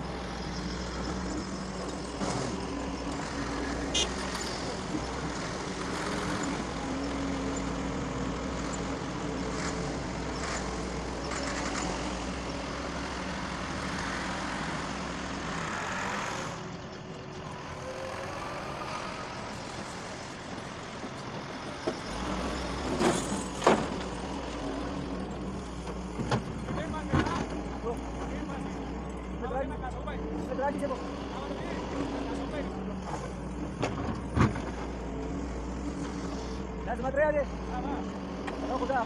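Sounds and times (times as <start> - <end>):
excavator engine and hydraulic drone: 0.0 - 39.0.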